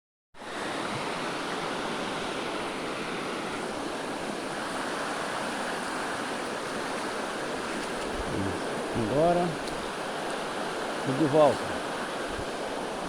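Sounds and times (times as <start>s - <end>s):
waterfall rushing: 0.5s - 13.0s
water running over rocks: 0.8s - 13.0s.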